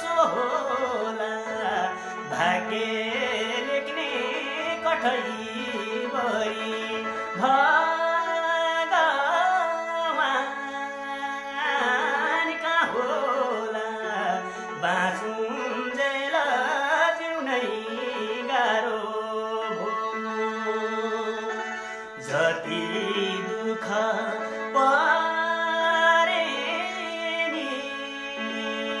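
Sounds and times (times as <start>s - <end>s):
person singing folk song: 0.0s - 29.0s.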